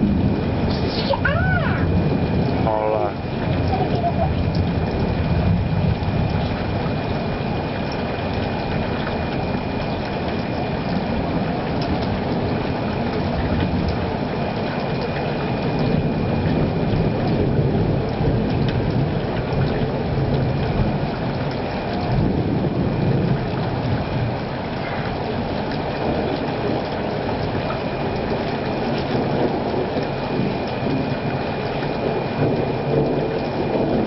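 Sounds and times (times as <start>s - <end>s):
rushing storm noise: 0.0s - 34.0s.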